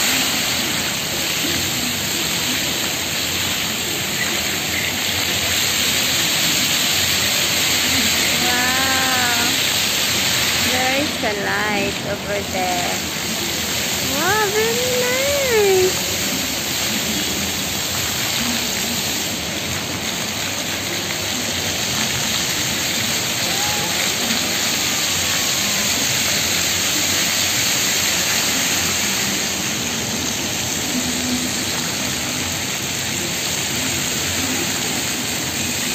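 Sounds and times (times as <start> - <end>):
fountain water jets splashing: 0.0 - 35.9.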